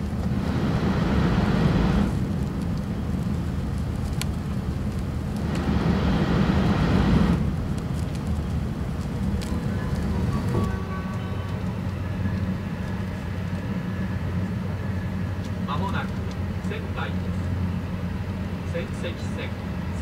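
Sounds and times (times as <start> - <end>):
train cabin low rumble: 0.0 - 20.0.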